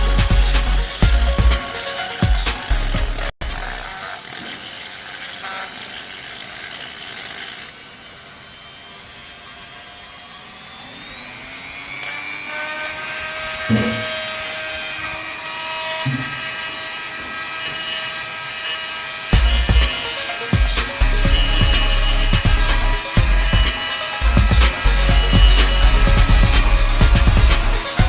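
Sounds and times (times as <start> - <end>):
grinder motor whine: 0.0 - 28.0.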